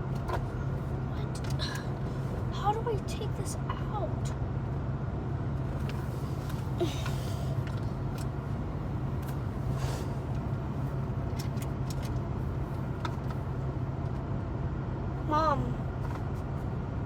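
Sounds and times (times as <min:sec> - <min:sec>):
car engine and air conditioning hum: 0:00.0 - 0:17.0.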